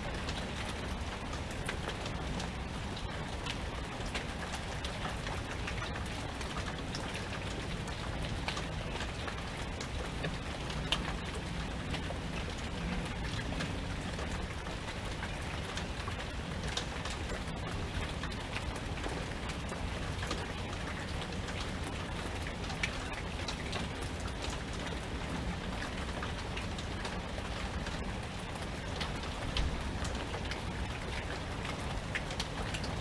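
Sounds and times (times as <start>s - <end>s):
raindrops ticking on a surface: 0.0s - 33.0s
steady rain falling: 0.0s - 33.0s.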